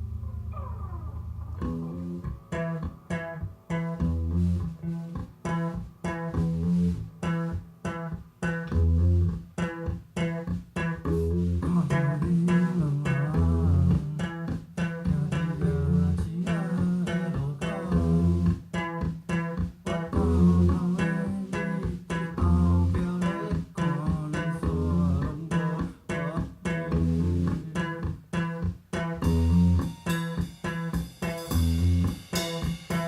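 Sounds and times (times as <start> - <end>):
bass guitar held low note: 0.0 - 33.0
live band choppy rhythm: 0.6 - 33.0.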